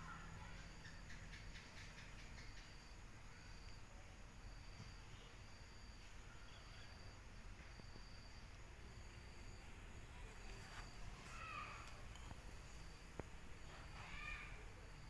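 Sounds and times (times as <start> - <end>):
high insect chirp: 0.0 - 15.0.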